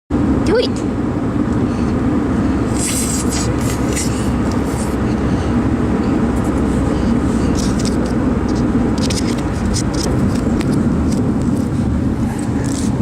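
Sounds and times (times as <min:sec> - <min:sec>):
car interior low rumble: 0:00.1 - 0:13.0.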